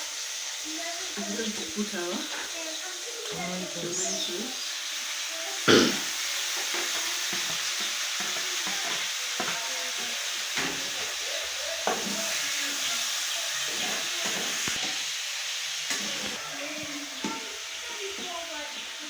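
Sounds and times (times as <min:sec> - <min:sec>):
onions and tomatoes sizzling in oil: 0:00.0 - 0:19.0.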